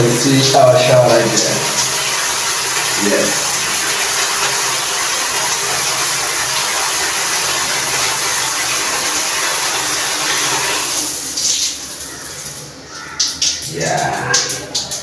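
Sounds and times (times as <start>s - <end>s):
shower water running: 0.0s - 15.0s
water dripping: 0.0s - 15.0s.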